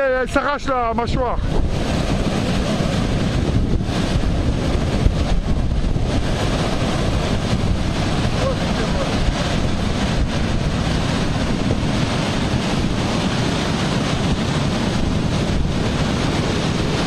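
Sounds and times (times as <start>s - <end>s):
rough surf: 0.0s - 17.0s
wind buffeting microphone: 0.0s - 17.0s.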